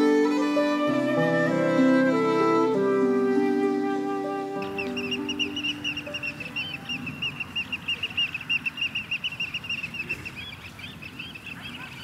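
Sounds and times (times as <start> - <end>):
shorebirds piping: 0.0 - 12.0.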